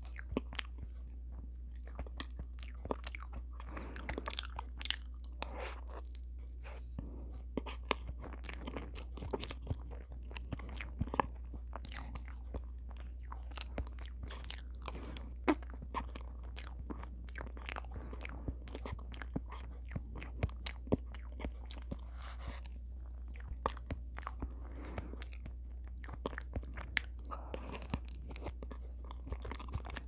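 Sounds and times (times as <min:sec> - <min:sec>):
steady low hum: 0:00.0 - 0:30.0
wet chewing and lip smacks: 0:00.0 - 0:30.0.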